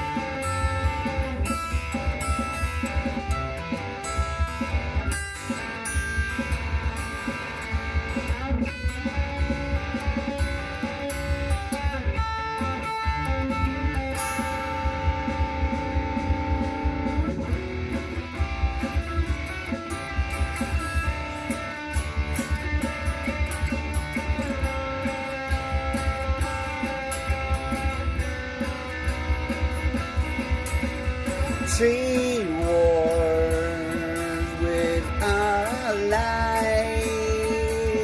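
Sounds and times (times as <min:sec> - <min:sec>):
guitars over bass and beat: 0:00.0 - 0:38.0.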